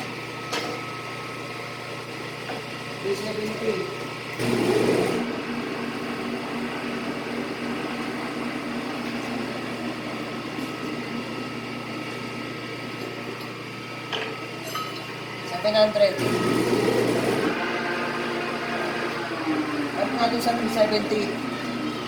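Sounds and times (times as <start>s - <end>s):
metal lathe humming: 0.0s - 14.0s, 15.2s - 22.0s.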